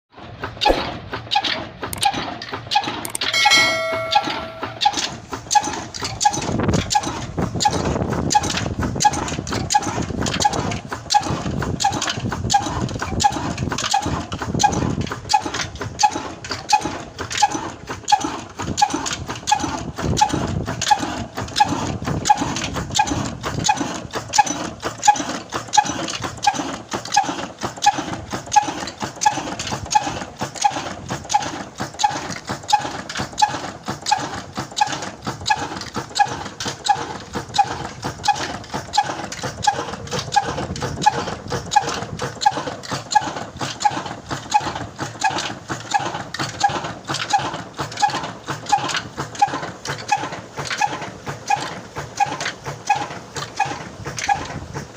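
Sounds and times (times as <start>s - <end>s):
stationary diesel engine running: 0.3s - 54.9s.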